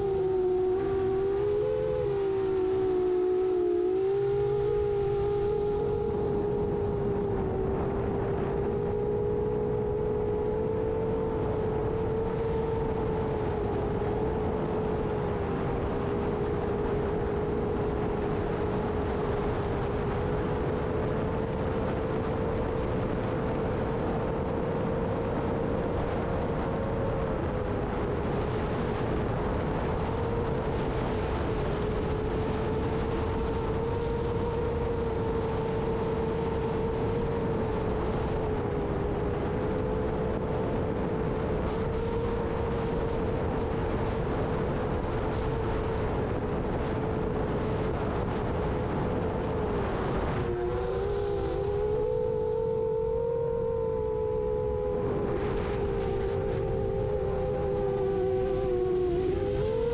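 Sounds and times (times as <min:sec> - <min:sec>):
quadcopter motors whining: 0:00.0 - 0:59.9
wind rumble on microphone: 0:00.0 - 0:59.9.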